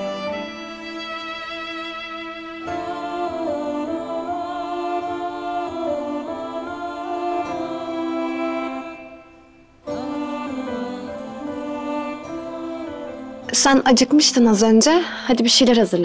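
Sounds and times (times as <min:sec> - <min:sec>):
slow soundtrack music with held notes: 0:00.0 - 0:15.2.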